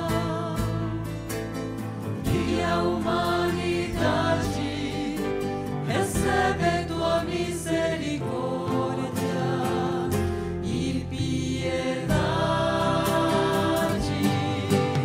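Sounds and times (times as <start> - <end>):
mixed choir singing a hymn: 0.0 - 15.0.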